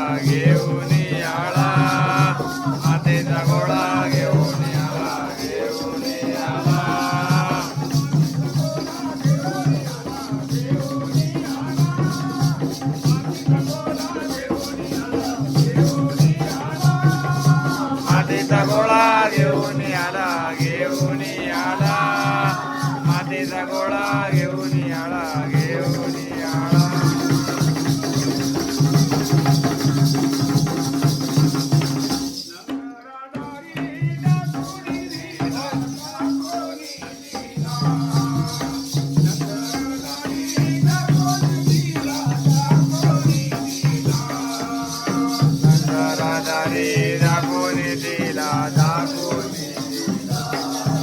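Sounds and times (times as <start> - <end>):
person singing: 0.0 - 30.5, 32.6 - 51.0
jingling percussion: 0.0 - 51.0
steady drum beat: 0.0 - 51.0.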